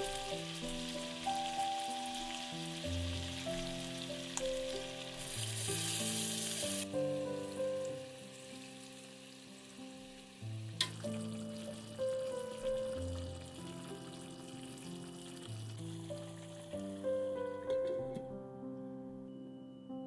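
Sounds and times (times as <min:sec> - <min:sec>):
food sizzling in oil: 0:00.0 - 0:17.4
instrumental background music: 0:00.0 - 0:20.0.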